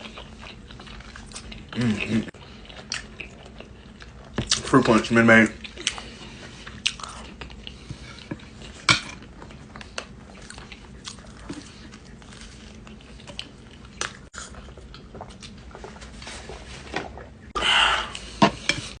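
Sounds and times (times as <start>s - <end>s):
person chewing food: 0.0s - 4.7s, 5.5s - 19.0s.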